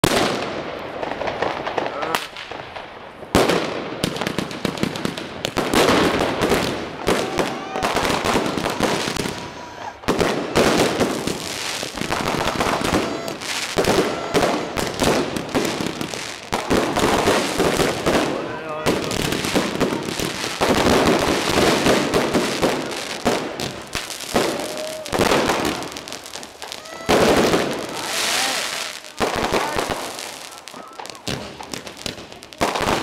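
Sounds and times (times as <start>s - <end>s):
aerial fireworks bursting: 0.0s - 33.0s
firecrackers crackling: 0.0s - 33.0s.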